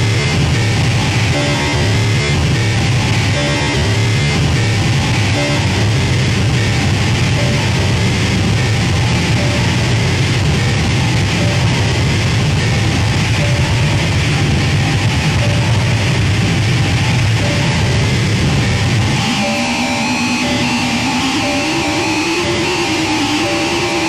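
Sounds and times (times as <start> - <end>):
heavy low rumble: 0.0 - 21.3
distorted noise music: 0.0 - 24.0.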